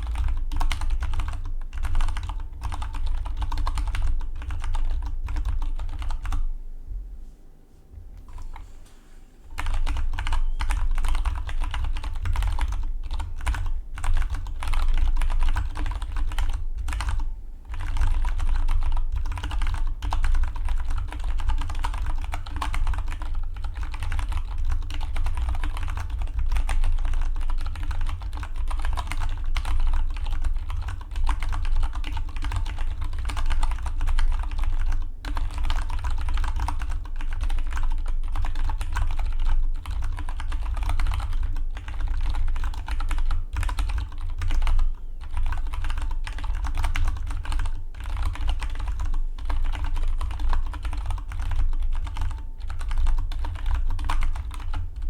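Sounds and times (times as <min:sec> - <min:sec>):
mechanical keyboard typing: 0:00.0 - 0:06.4, 0:09.6 - 0:55.0.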